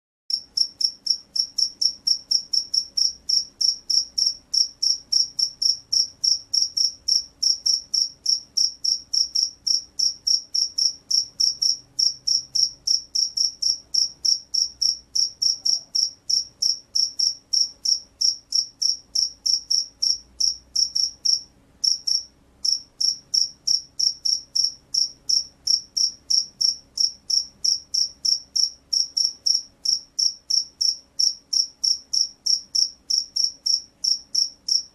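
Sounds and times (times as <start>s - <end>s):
cricket chirping: 0.3s - 34.9s.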